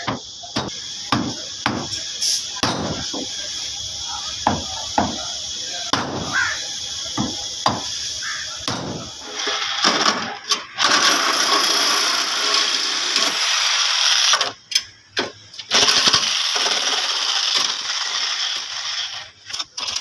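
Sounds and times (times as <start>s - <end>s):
workshop tool running: 0.0s - 20.0s.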